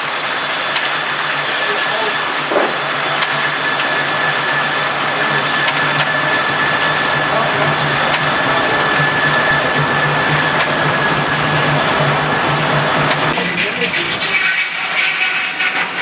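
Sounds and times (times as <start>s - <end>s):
sawmill machinery humming: 0.0s - 16.0s.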